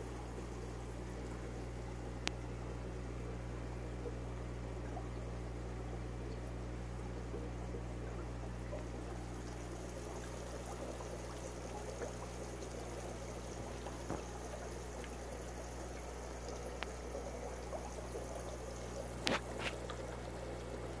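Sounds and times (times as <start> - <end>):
filter low hum: 0.0 - 21.0
water trickling into tank: 0.0 - 21.0.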